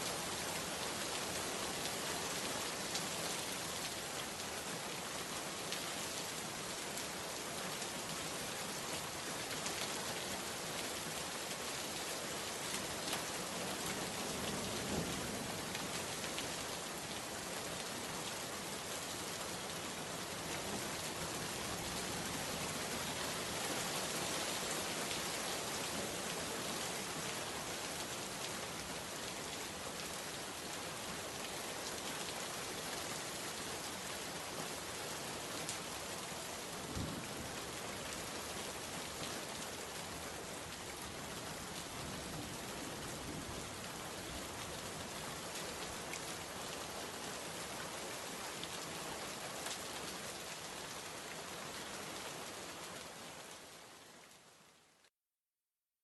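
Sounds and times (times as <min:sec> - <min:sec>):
steady rain hiss: 0:00.0 - 0:55.1.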